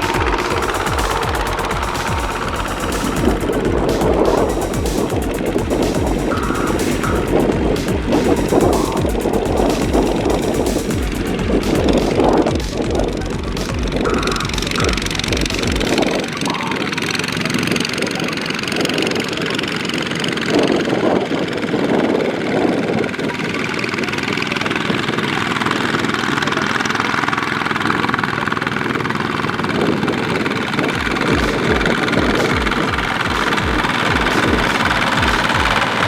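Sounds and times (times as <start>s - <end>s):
small tractor engine chugging: 0.0s - 36.0s.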